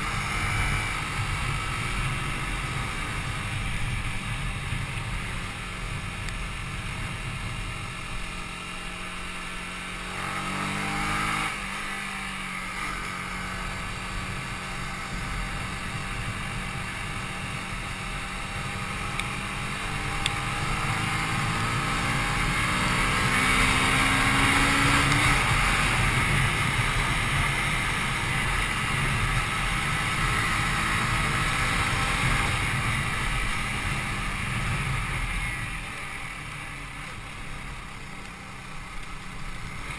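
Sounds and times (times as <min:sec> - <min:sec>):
wind noise: 0:00.0 - 0:08.6, 0:13.3 - 0:37.9
motorcycle engine accelerating: 0:00.0 - 0:39.9.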